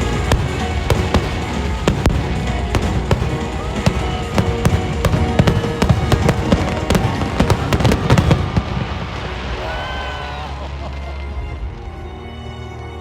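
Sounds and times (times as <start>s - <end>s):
fireworks bangs and crackles: 0.0s - 12.0s
music: 0.0s - 13.0s.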